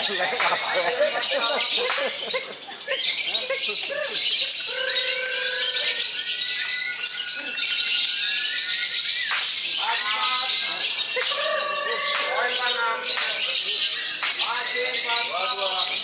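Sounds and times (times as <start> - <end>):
lovebirds chattering and trilling: 0.0 - 16.0.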